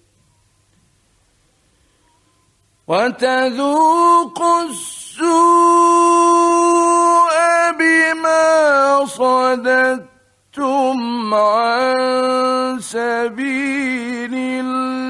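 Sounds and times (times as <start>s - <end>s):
man reciting melodically: 2.8s - 15.0s.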